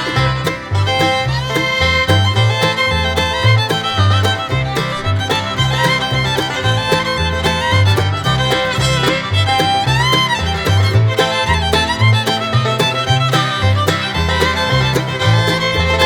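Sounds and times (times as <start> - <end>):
bluegrass music with fiddle: 0.0 - 16.0.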